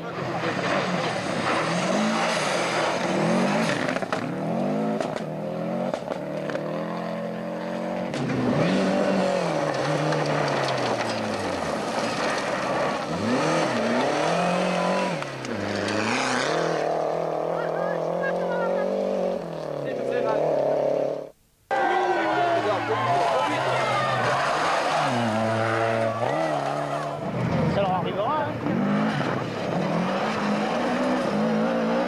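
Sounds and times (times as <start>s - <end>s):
rally car engines revving: 0.0s - 32.0s.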